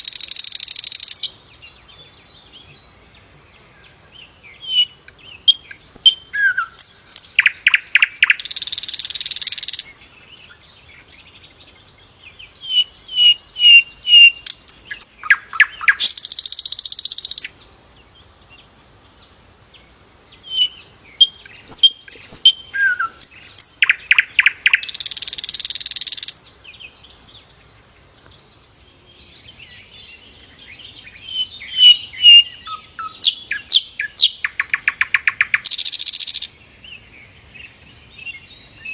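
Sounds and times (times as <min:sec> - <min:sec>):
flycatcher singing: 0:00.0 - 0:03.0, 0:03.9 - 0:19.3, 0:20.3 - 0:27.6, 0:28.2 - 0:37.0.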